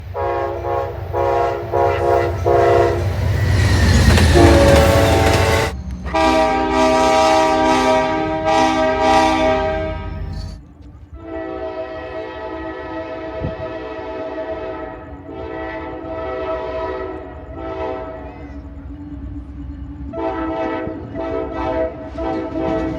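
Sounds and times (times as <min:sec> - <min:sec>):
locomotive air horn chords: 0:00.0 - 0:18.3, 0:20.1 - 0:22.9
train rumble: 0:00.0 - 0:22.9.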